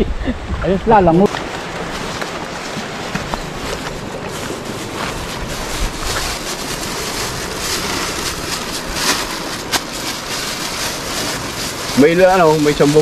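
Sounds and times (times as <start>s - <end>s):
wind on microphone: 0.0s - 12.0s
flowing river: 0.0s - 13.0s.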